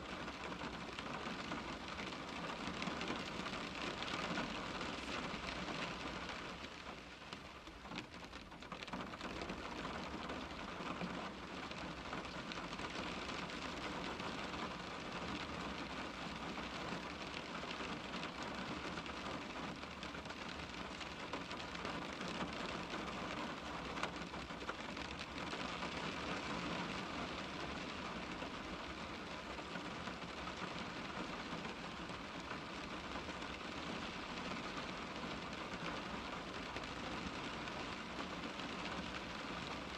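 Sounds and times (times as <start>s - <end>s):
rain pattering on window glass: 0.0s - 39.9s.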